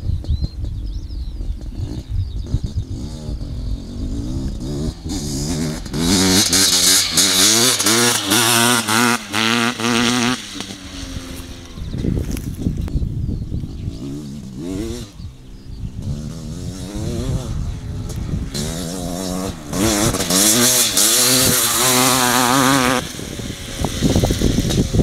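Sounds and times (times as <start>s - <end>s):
two-stroke motorcycle engine revving: 1.4s - 13.0s, 13.6s - 25.0s.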